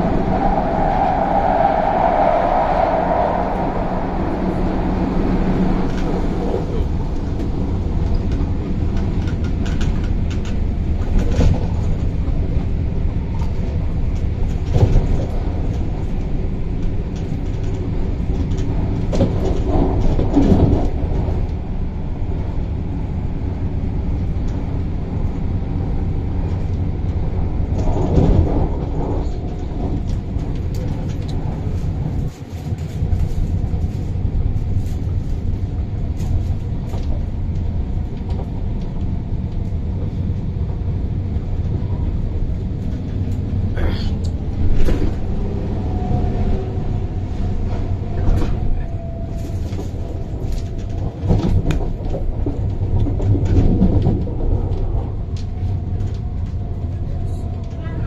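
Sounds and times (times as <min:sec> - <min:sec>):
track knocks and rattles: 0:00.0 - 0:58.0
train wheels and motors rumbling: 0:00.0 - 0:58.0.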